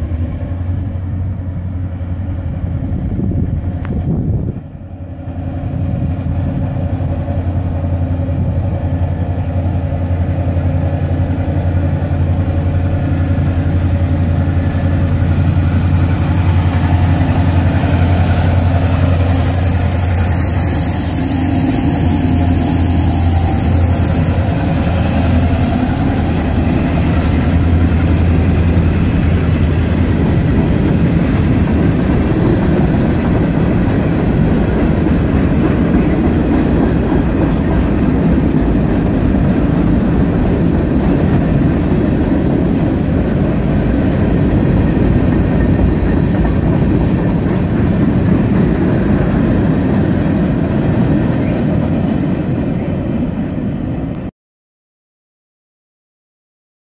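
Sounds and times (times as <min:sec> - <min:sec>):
diesel locomotive engine drone: 0:00.0 - 0:54.3.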